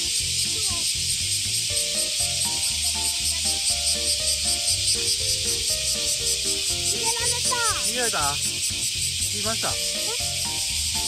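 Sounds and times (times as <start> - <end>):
background music with bass: 0.0 - 11.0
cicadas chorus: 0.0 - 11.0.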